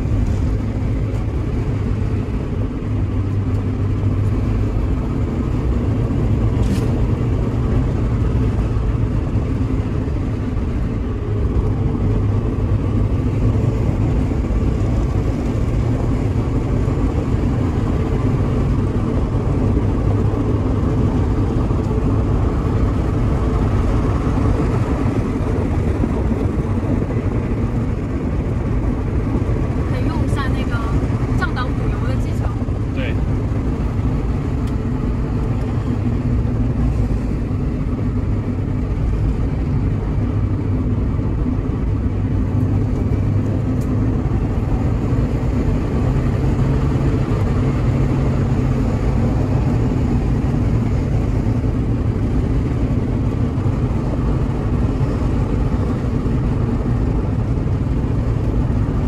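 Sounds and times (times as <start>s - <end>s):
car engine running: 0.0s - 59.0s
tyre and road noise: 0.0s - 59.0s.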